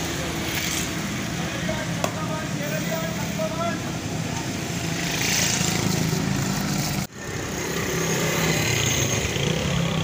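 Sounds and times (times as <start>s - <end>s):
street noise hiss: 0.0s - 10.0s.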